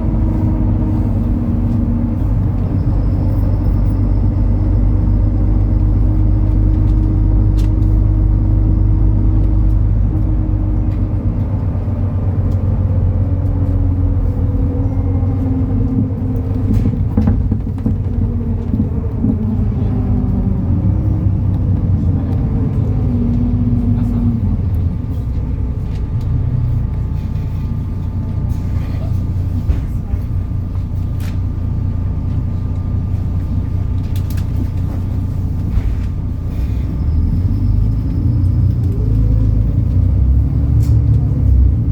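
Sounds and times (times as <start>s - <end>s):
bus diesel engine rumble: 0.0s - 41.9s.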